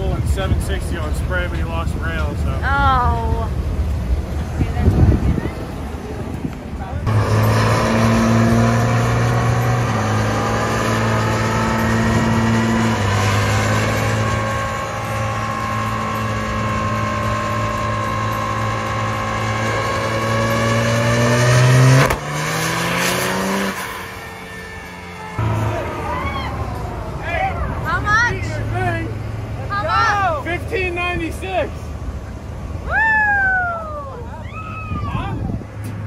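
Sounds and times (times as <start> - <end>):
diesel engine at high rpm: 0.0 - 32.9.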